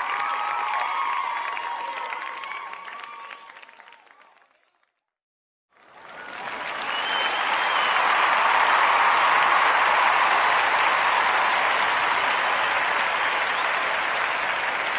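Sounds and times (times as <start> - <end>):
crowd applause: 0.0 - 5.0, 5.7 - 14.9.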